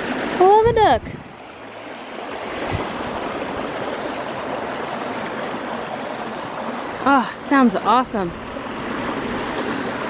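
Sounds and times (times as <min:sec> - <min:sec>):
stream flowing water: 0:00.0 - 0:10.0.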